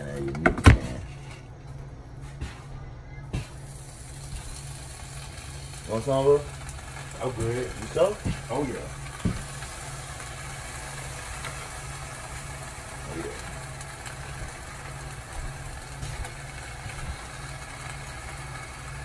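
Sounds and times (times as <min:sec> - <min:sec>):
low mechanical hum: 0:00.0 - 0:19.0
ham sizzling in a pan: 0:03.3 - 0:19.0.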